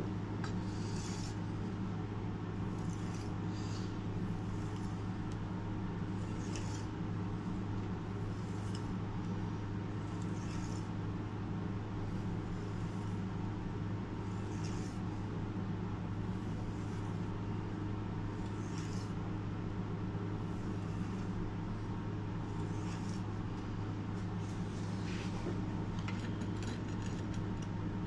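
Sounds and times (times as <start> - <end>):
workshop machinery humming: 0.0 - 28.0.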